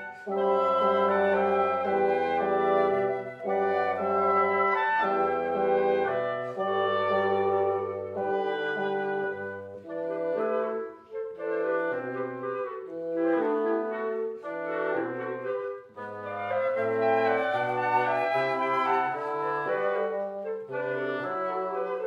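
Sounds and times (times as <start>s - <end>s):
wind quintet playing: 0.0s - 22.0s.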